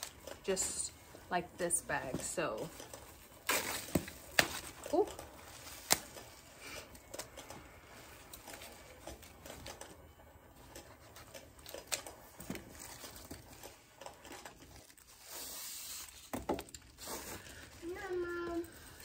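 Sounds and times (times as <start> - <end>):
wrapping crinkling and rustling: 0.0 - 19.0.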